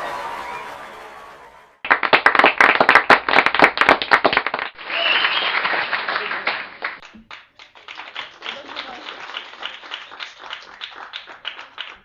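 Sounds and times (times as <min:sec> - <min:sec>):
group applause: 0:00.0 - 0:12.0.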